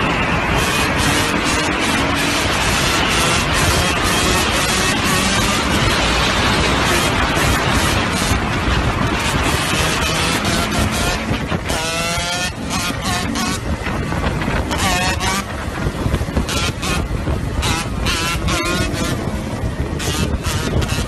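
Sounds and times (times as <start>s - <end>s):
dirt bike engine revving: 0.0s - 21.0s
wind rush on microphone: 0.0s - 21.0s.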